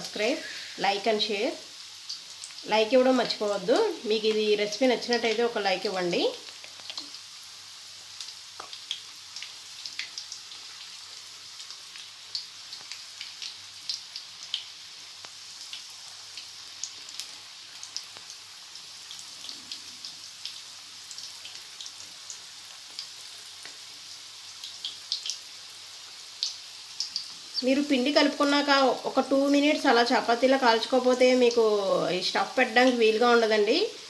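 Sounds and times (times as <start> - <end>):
deep-frying sizzle with pops: 0.0 - 34.0.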